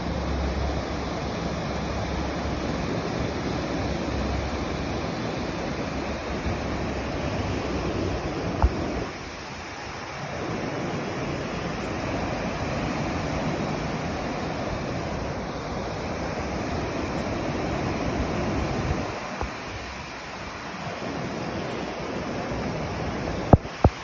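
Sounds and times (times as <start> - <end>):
ocean surf washing onto beach: 0.0 - 24.0.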